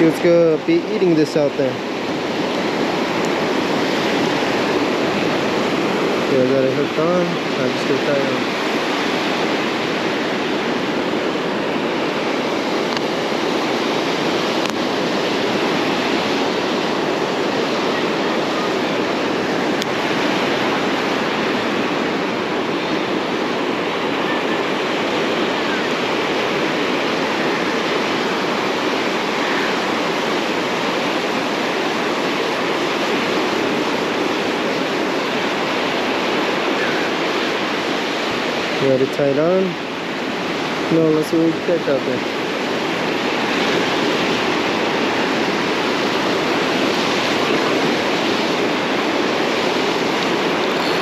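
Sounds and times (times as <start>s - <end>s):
ocean surf breaking: 0.0s - 51.0s.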